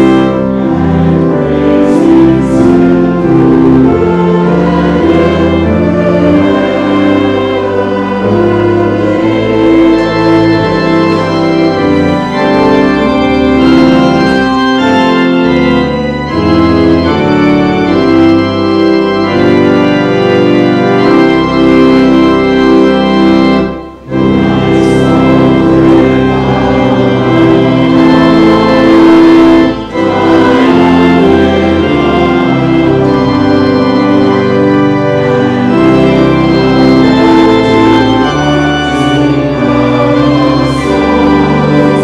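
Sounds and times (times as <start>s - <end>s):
church organ chords: 0.0s - 42.0s.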